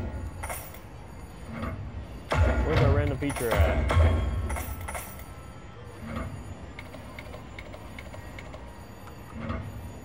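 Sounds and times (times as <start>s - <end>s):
casino background hum: 0.0s - 10.0s.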